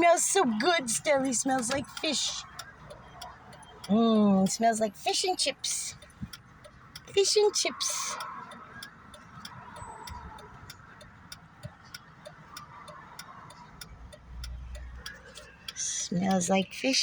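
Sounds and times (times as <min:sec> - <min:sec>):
turn signal clicking: 0:00.0 - 0:17.0
vehicle rumble in motion: 0:00.0 - 0:17.0.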